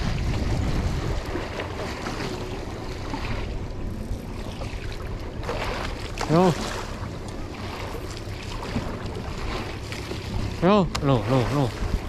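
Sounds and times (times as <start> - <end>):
sea rushing: 0.0 - 12.0
wind buffeting microphone: 0.0 - 12.0.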